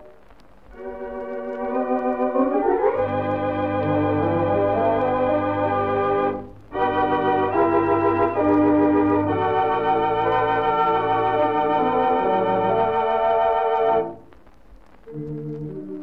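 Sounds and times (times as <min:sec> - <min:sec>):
theatre organ slow melody: 0:00.8 - 0:14.2.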